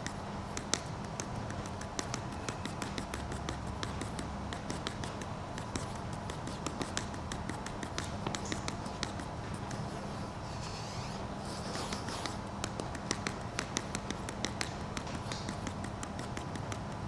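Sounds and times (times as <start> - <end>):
ink marking tool tapping on paper: 0.0 - 9.9, 11.7 - 17.0
background hiss and hum: 0.0 - 17.0.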